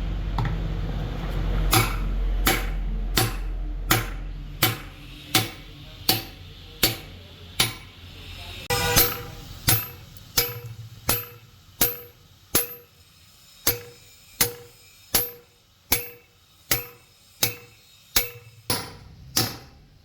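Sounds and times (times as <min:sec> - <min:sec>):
hammer striking metal: 0:01.7 - 0:13.0, 0:13.6 - 0:20.0.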